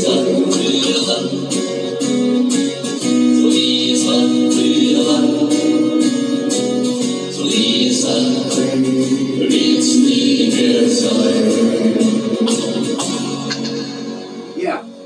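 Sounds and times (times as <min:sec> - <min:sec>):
person singing: 0:00.0 - 0:15.0
strummed guitar: 0:00.0 - 0:15.0.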